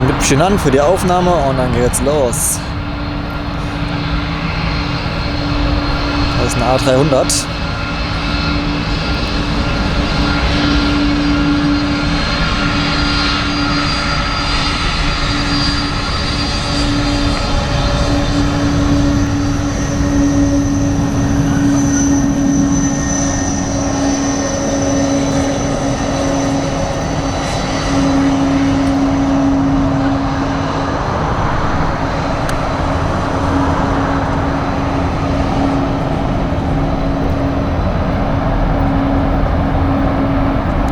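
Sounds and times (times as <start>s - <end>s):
faint high whine: 0.0s - 40.9s
jet engines droning: 0.0s - 40.9s.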